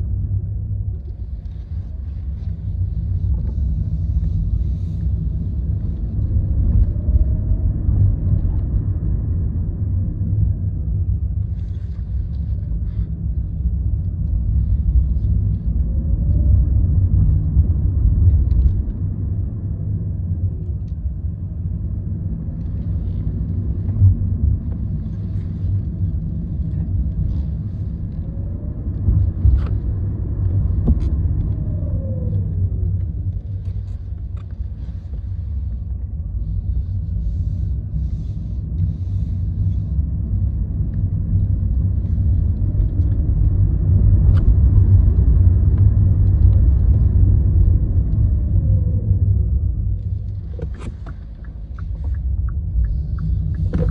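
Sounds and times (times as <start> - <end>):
low road rumble: 0.0 - 53.9.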